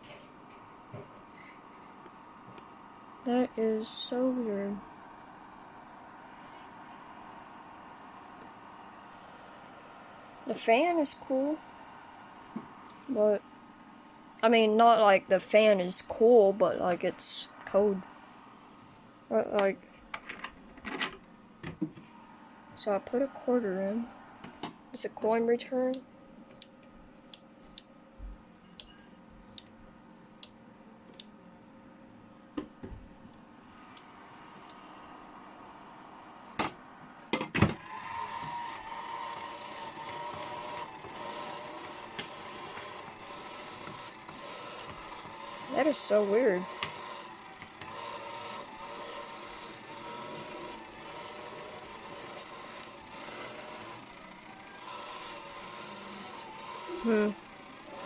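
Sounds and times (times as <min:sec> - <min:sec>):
faint hum: 0:00.0 - 0:58.0.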